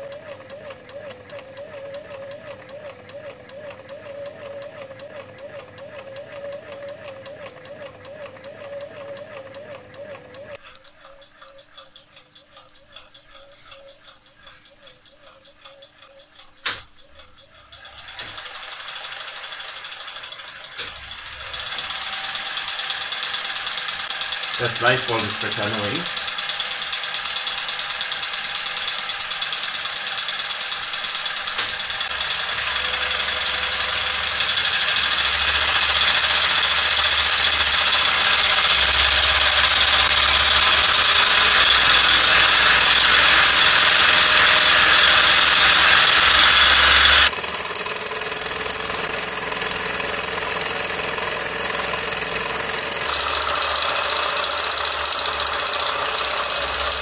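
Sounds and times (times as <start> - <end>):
sewing machine clattering: 0.0 - 57.0.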